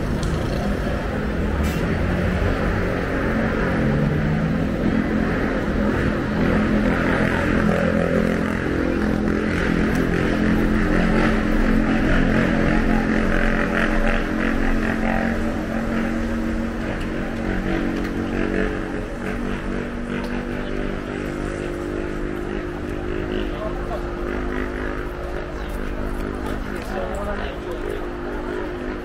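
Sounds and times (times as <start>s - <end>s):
city street noise: 0.0s - 29.0s
vehicle engine humming: 0.0s - 29.0s.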